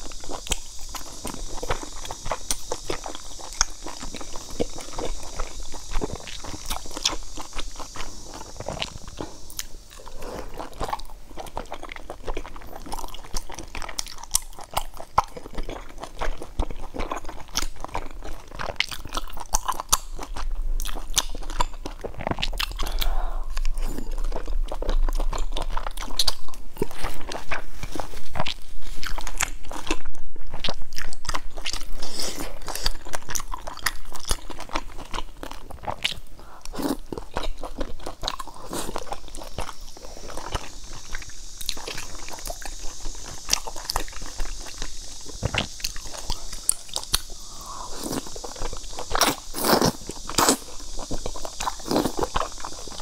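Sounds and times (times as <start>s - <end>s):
person chewing with mouth clicks: 0.0s - 53.0s.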